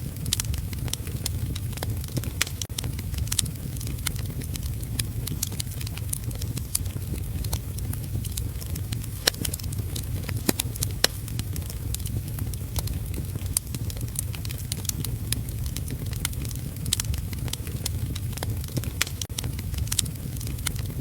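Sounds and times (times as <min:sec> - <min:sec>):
low rumble: 0:00.0 - 0:21.0
steady rain: 0:00.0 - 0:21.0
wood fire crackling: 0:00.0 - 0:21.0.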